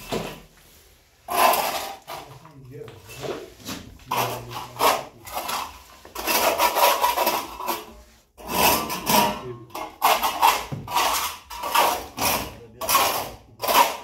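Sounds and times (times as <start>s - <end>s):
rough scraping on hard surface: 0.4s - 14.0s.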